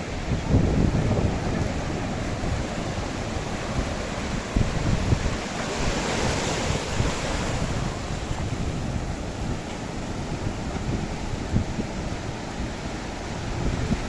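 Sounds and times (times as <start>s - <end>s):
sea surf washing onto beach: 0.0s - 14.0s
wind buffeting microphone: 0.0s - 14.0s.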